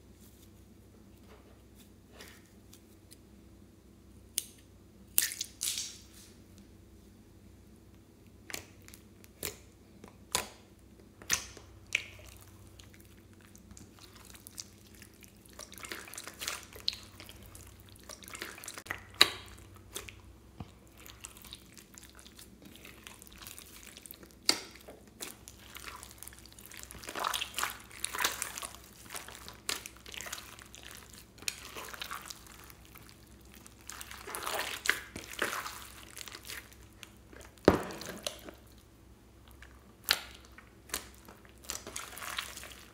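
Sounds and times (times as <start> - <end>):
slime squelching: 8.3 - 42.9.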